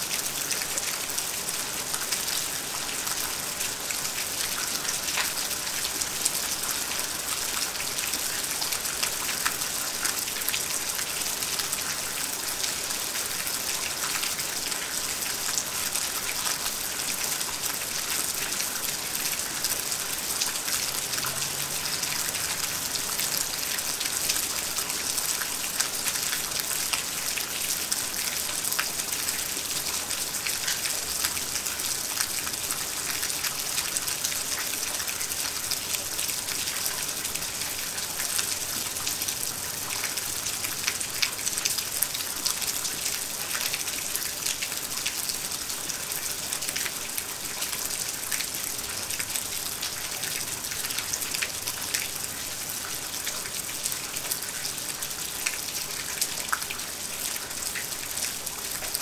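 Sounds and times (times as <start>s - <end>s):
raindrops ticking on a surface: 0.1s - 59.0s.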